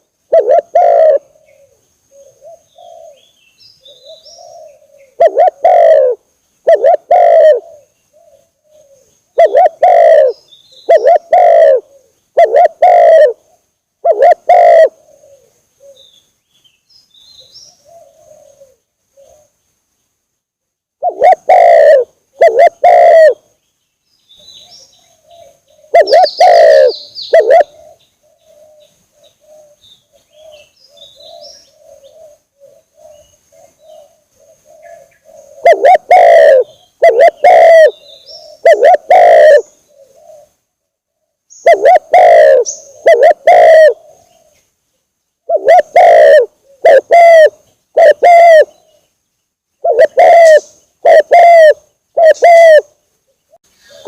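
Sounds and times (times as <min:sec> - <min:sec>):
doves cooing: 0:00.0 - 0:16.1, 0:17.4 - 0:19.6, 0:21.0 - 0:23.5, 0:24.5 - 0:44.6, 0:45.4 - 0:49.1, 0:49.8 - 0:54.0.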